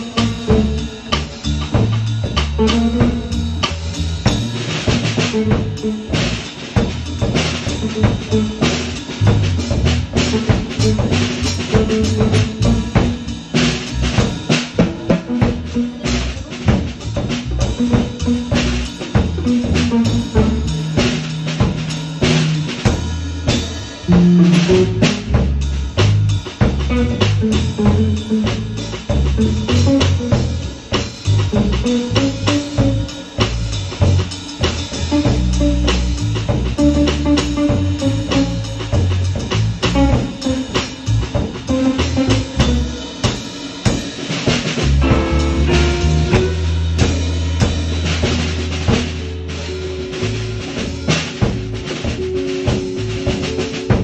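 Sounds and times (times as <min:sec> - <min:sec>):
band music: 0:00.0 - 0:54.0
drum kit beat: 0:00.0 - 0:54.0.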